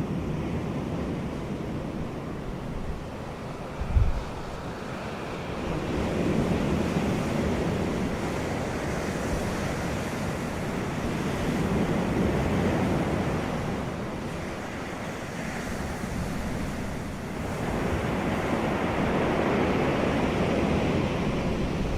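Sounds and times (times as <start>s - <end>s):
wind blowing in gusts: 0.0s - 21.9s.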